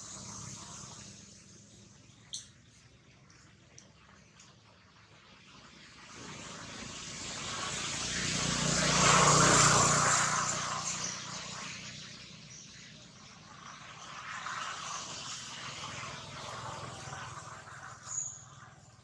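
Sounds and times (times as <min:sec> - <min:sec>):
passing engine drone: 0:00.0 - 0:02.2, 0:05.5 - 0:19.0.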